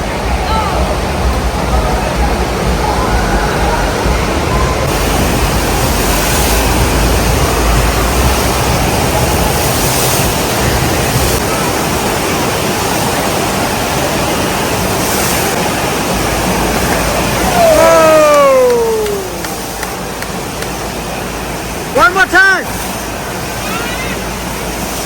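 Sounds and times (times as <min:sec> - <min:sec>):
rushing and splashing water: 0:00.0 - 0:25.0.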